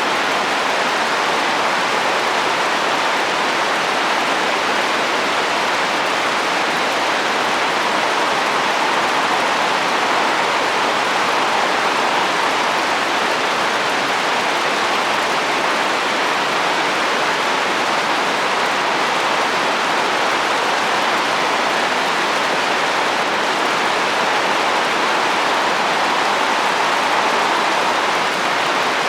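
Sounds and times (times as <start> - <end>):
heavy rain on a roof: 0.0 - 29.0.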